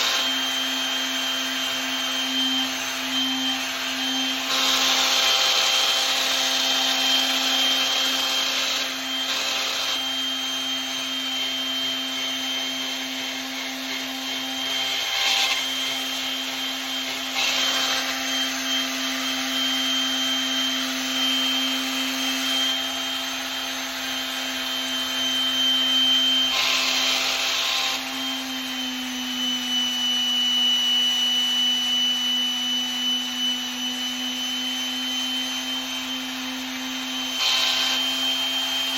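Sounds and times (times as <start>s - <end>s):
electric sander humming: 0.0s - 30.6s, 32.1s - 38.9s.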